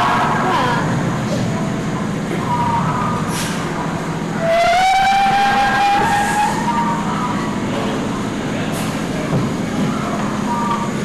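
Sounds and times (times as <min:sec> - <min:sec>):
ride car rumbling: 0:00.0 - 0:11.0.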